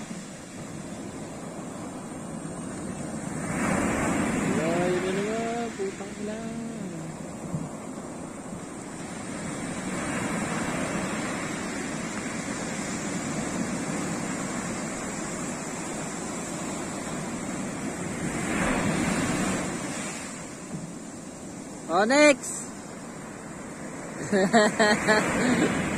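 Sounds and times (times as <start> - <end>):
wind rumbling on microphone: 0.0 - 21.9
surf breaking on beach: 0.0 - 25.9.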